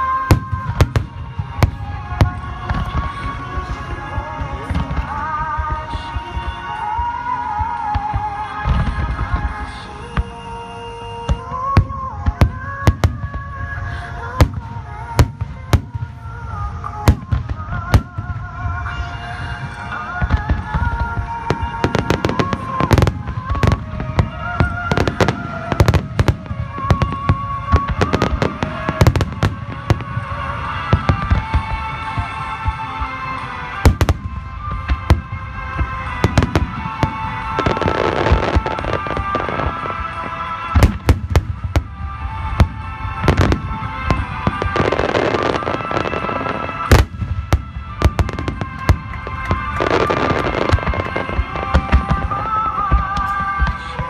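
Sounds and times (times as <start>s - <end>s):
firework crackling: 0.0s - 54.0s
music with long held notes: 0.0s - 54.0s.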